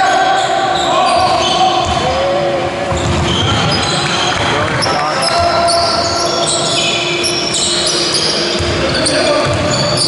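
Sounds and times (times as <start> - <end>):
sneakers squeaking on court: 0.4 - 2.1, 2.9 - 10.0.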